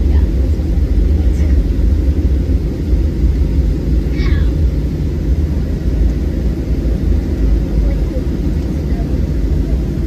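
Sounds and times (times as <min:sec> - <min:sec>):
airplane cabin low rumble: 0:00.0 - 0:10.0.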